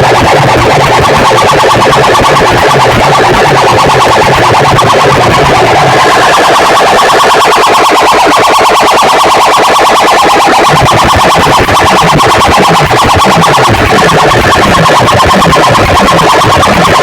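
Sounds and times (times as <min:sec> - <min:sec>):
pulsing alarm-like electronic tone: 0:00.0 - 0:17.0
pulsing bass line: 0:00.0 - 0:17.0.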